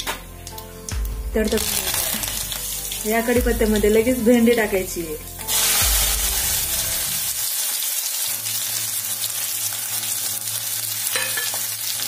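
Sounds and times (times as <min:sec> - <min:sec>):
oil crackles: 0:00.4 - 0:04.5, 0:05.4 - 0:12.0
okra sizzling in hot oil: 0:00.5 - 0:12.0.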